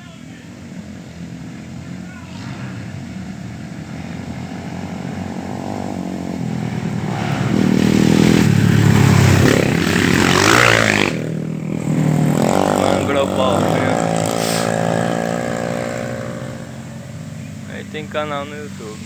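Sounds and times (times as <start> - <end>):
motorcycle engine passing: 0.0 - 19.0.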